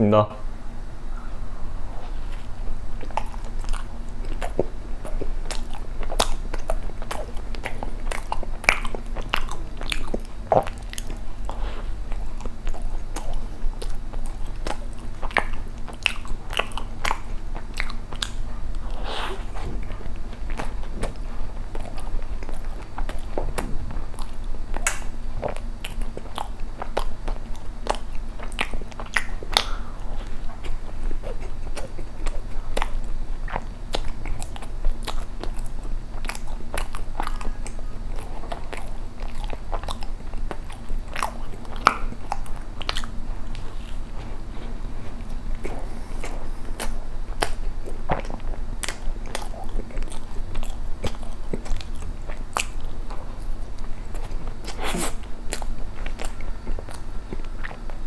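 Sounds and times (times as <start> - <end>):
biting and chewing bread: 1.9 - 58.0.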